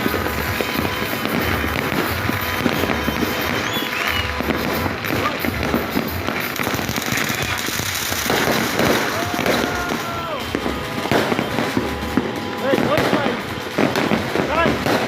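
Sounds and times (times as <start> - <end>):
fireworks cracking and popping: 0.0 - 15.0.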